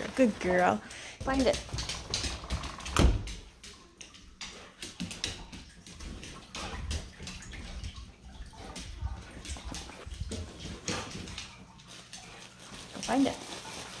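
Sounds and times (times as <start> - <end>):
dog paws clicking on floor: 0.0 - 14.0.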